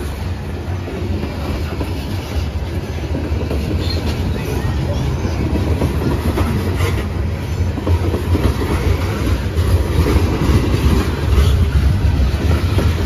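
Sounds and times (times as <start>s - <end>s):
freight train rolling past: 0.0s - 13.0s
wheels clacking over rail joints: 0.0s - 13.0s.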